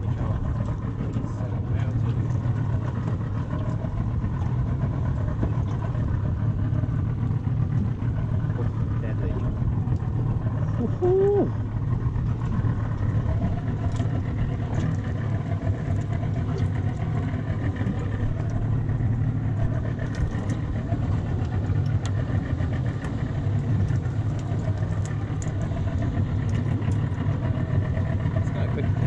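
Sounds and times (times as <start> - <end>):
boat motor droning: 0.0 - 29.0.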